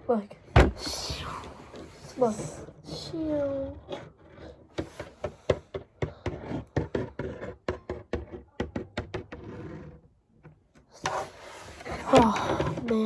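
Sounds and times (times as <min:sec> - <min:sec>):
small hard toys knocking: 0:00.6 - 0:13.0.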